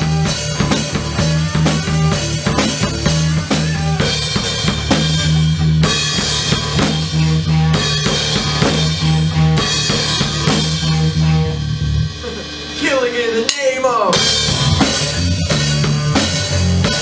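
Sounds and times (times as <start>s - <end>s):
bass guitar line: 0.0s - 17.0s
drum kit beat: 0.0s - 17.0s
rock band playing: 0.0s - 17.0s.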